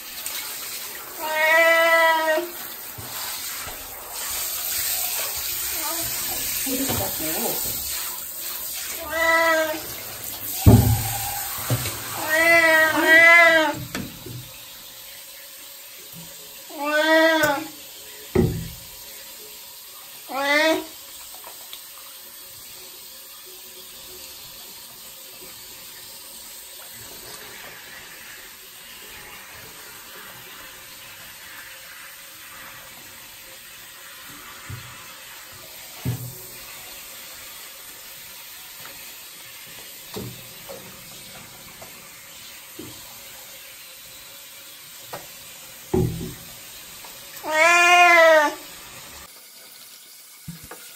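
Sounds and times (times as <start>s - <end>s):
running water in a bathtub: 0.0s - 50.9s.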